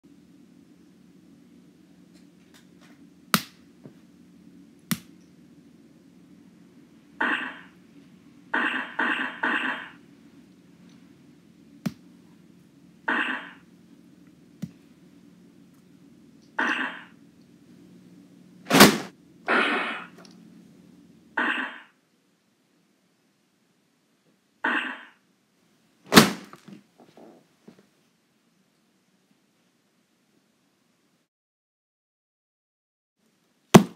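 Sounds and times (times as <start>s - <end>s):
steady low hum: 0.0s - 31.3s.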